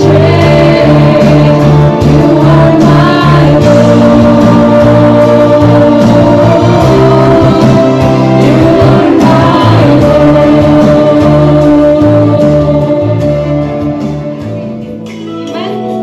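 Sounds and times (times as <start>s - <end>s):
women singing gospel song: 0.0s - 14.0s
instrumental backing: 0.0s - 16.0s.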